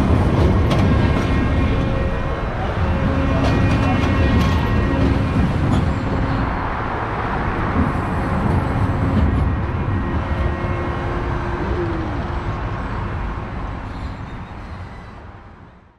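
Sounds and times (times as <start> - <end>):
outdoor noise: 0.0 - 15.9.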